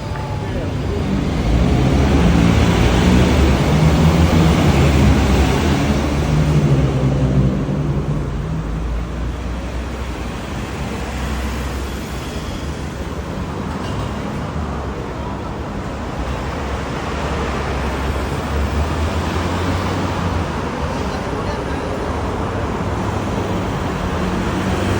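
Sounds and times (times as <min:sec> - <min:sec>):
road traffic rumble: 0:00.0 - 0:24.9.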